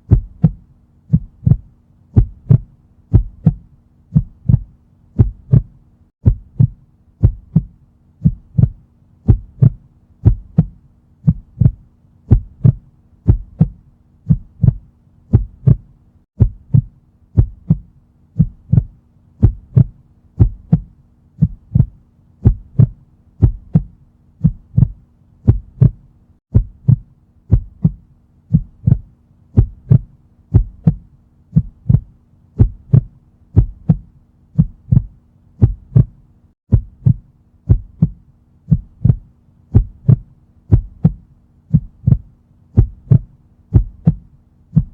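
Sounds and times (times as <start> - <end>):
faint low hum: 0.0 - 44.9
heartbeat thumps: 0.0 - 44.9.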